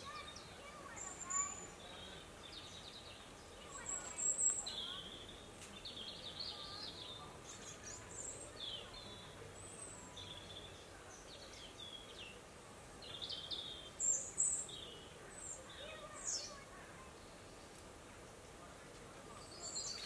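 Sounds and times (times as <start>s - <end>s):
small songbirds chirping: 0.0s - 17.9s, 19.2s - 20.0s.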